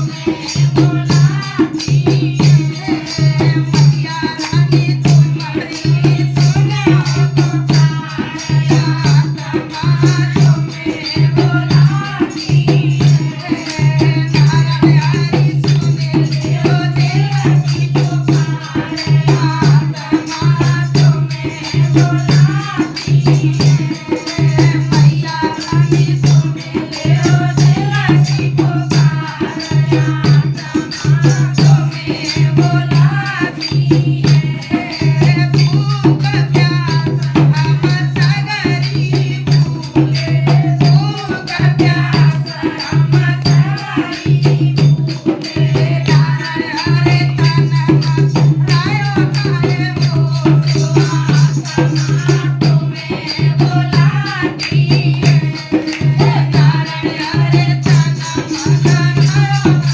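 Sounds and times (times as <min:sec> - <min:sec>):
person singing devotional song: 0:00.0 - 0:59.9
rattling percussion: 0:00.0 - 0:59.9.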